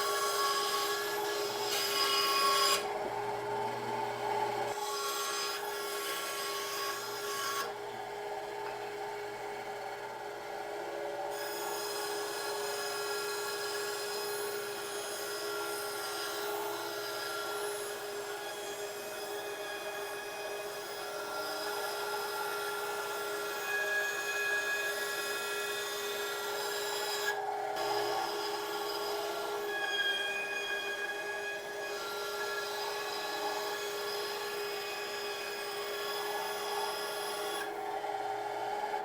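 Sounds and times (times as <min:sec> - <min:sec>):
saw rasping through wood: 0:00.0 - 0:02.9, 0:04.7 - 0:07.8, 0:11.3 - 0:37.8.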